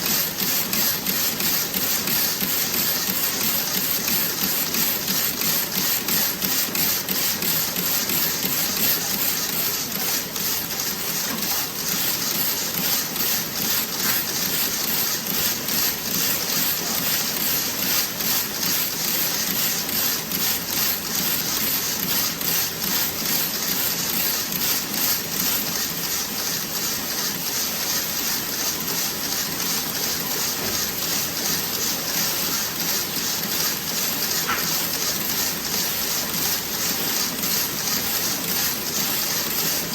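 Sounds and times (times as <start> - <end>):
knitting machine clattering: 0.0 - 39.9.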